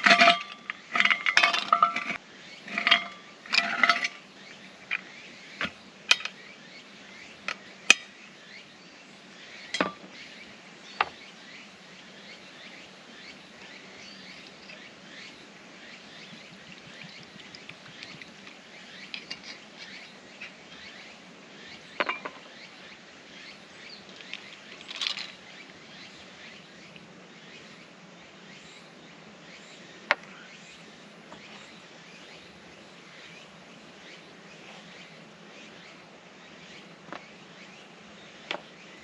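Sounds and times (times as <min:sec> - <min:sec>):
birds chirping: 0:00.0 - 0:39.0
steady outdoor hum: 0:00.0 - 0:39.0.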